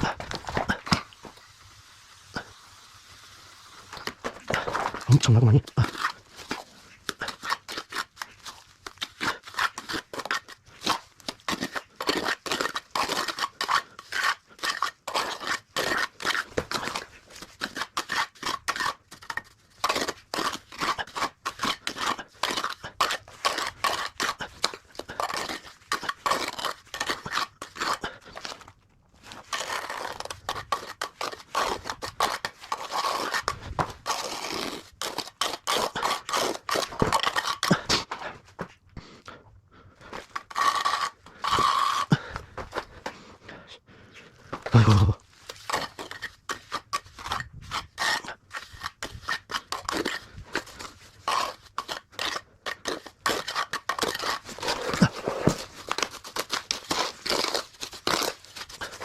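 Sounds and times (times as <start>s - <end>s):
trowel scraping wet mortar: 0.0s - 38.7s, 40.0s - 43.1s, 44.5s - 59.0s.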